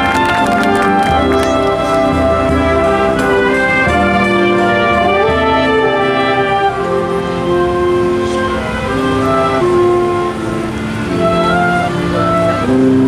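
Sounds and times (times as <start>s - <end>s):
low brass bass line: 0.0s - 13.0s
marching band brass chords: 0.0s - 13.0s.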